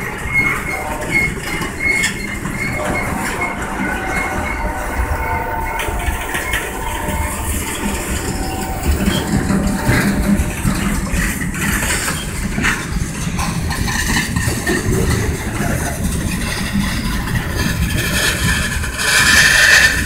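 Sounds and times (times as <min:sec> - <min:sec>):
freight train cars rolling: 0:00.0 - 0:20.0
wheels and couplers clattering: 0:00.0 - 0:20.0.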